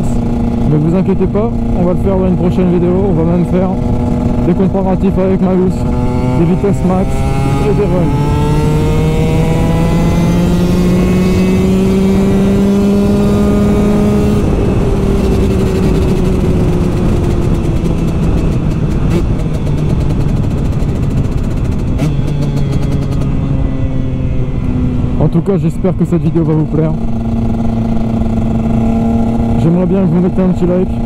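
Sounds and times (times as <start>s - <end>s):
two-stroke motorcycle engine: 0.0s - 31.0s.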